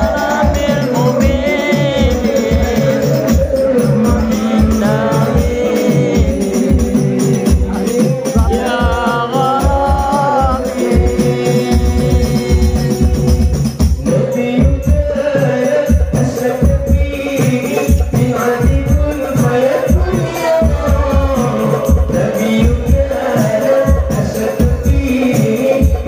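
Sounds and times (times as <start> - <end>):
man singing into microphone: 0.0 - 26.0
steady drum beat: 0.0 - 26.0.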